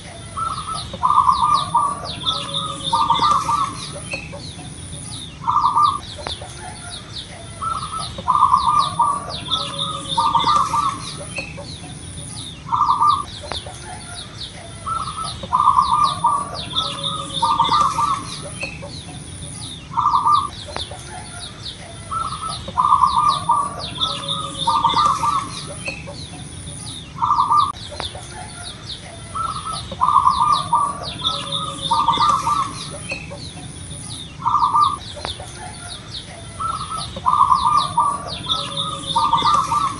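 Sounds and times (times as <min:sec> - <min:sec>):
dove cooing: 0:00.0 - 0:39.9
high chirping: 0:00.0 - 0:39.9.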